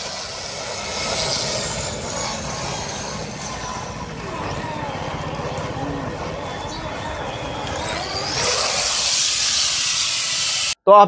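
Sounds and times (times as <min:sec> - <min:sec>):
angle grinder motor hum: 0:00.0 - 0:10.8.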